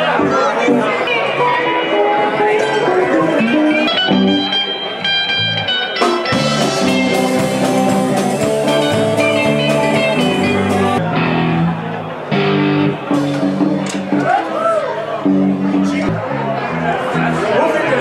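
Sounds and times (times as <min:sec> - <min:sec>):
guitar-led band music: 0:00.0 - 0:18.0.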